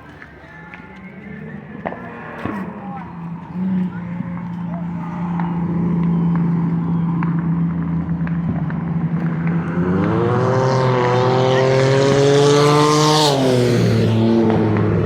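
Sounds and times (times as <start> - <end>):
vehicle engine revving: 1.3 - 15.0.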